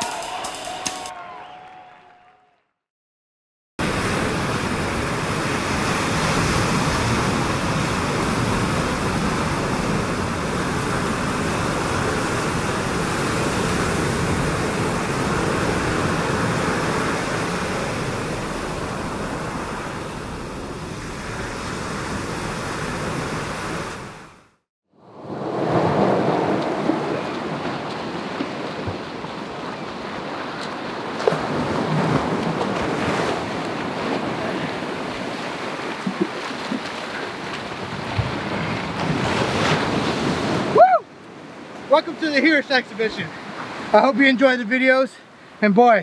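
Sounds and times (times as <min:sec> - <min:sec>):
sea surf washing in shallows: 0:03.8 - 0:44.5.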